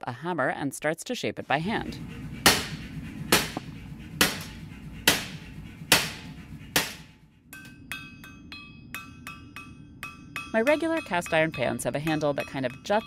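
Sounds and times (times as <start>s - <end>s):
steady low rumble: 1.4s - 13.0s
hammer striking hot steel rod: 2.4s - 13.0s.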